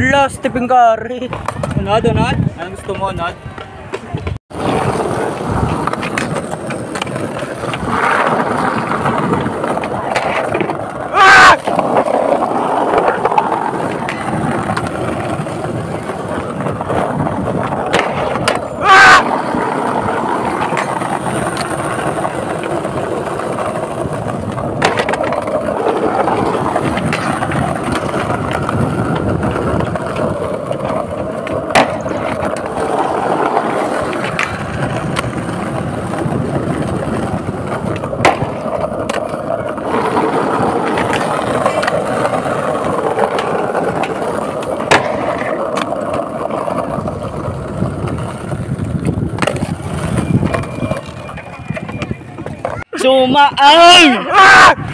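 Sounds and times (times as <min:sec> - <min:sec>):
skateboard wheels rolling on concrete: 0:00.0 - 0:54.9
skateboard clacking: 0:00.2 - 0:53.9.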